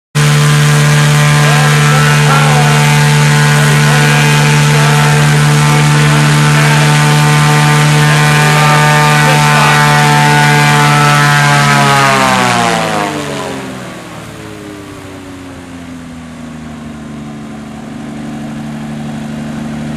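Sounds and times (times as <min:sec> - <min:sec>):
aircraft engine droning: 0:00.2 - 0:19.9.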